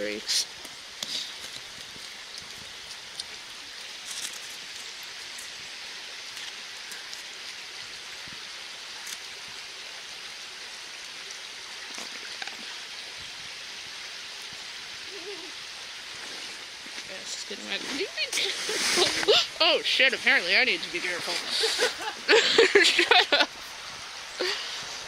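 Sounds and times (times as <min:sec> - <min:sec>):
stream running water: 0:00.0 - 0:25.0.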